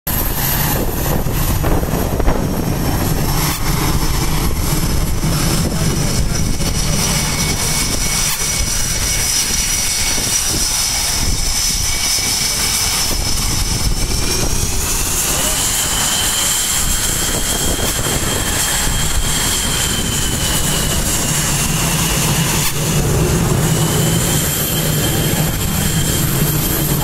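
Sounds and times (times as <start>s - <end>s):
high jet whine: 0.1s - 27.0s
jet engines rumbling: 0.1s - 27.0s.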